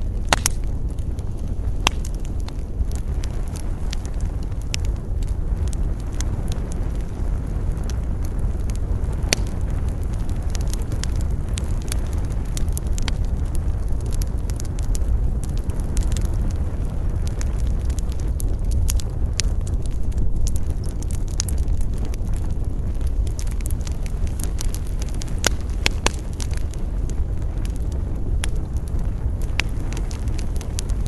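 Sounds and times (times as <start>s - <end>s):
campfire crackling and popping: 0.0s - 31.0s
low rumble of wind: 0.0s - 31.0s.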